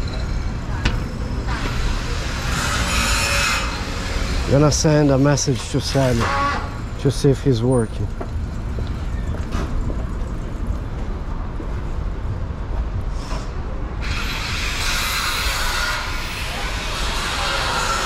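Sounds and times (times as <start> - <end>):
low rumble of passing cars: 0.0 - 18.0.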